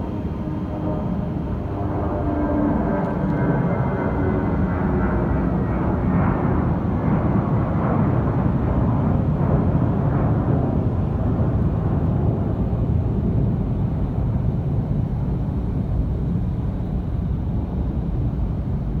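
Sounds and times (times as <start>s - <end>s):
jet engines roaring: 0.0s - 16.6s.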